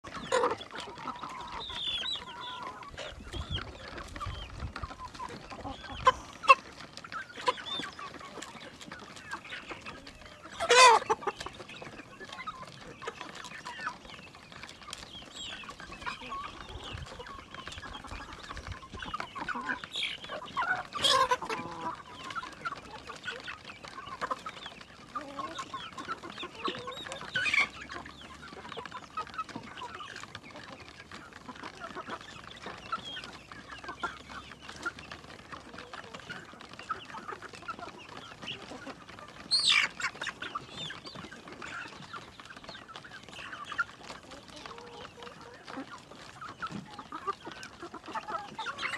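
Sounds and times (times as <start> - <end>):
hens clucking: 0.0 - 48.9.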